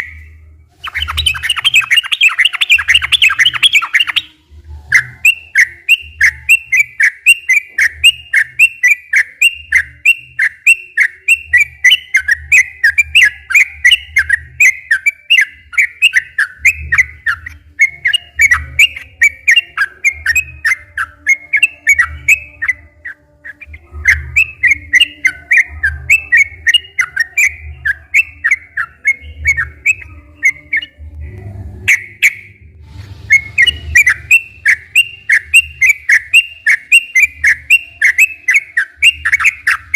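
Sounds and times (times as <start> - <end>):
bulbul singing bubbly whistles: 0.8 - 4.3, 4.9 - 31.0, 33.3 - 39.9.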